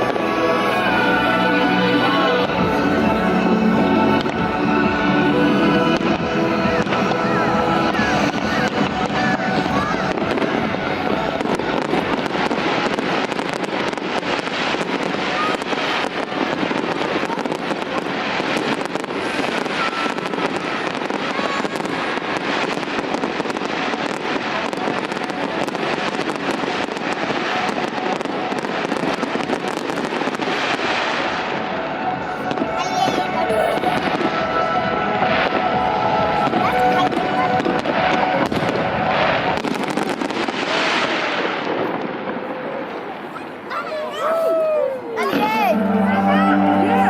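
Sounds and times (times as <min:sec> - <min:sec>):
fireworks crackling and banging: 0:00.0 - 0:47.0.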